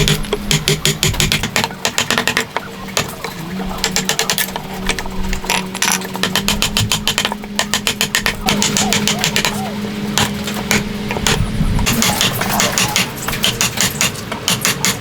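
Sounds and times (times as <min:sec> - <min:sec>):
hand tools tapping wood: 0:00.0 - 0:15.0
steady low hum: 0:00.0 - 0:15.0.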